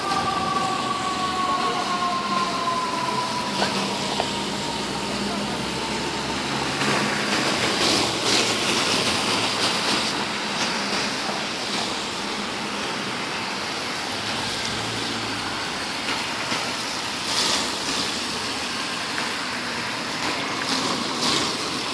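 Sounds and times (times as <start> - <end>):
city traffic: 0.0 - 21.9
vehicles passing: 0.0 - 21.9.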